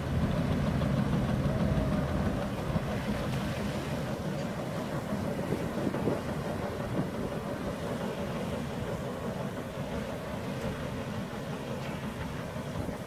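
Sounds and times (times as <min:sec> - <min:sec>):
paddle wheels churning water: 0:00.0 - 0:13.0.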